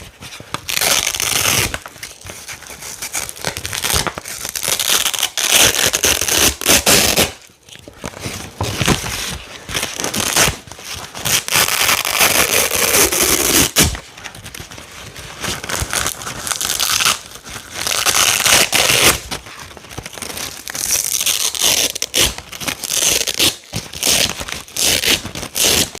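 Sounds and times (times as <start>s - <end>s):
velcro strips ripping: 0.0s - 7.7s, 8.8s - 14.1s, 15.4s - 19.3s, 20.0s - 26.0s.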